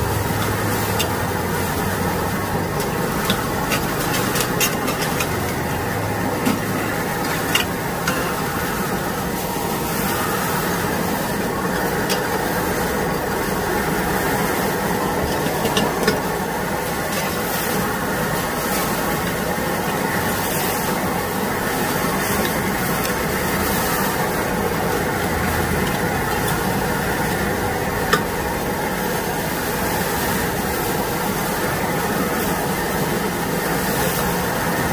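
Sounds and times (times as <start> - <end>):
food sizzling in a wok: 0.0 - 34.9.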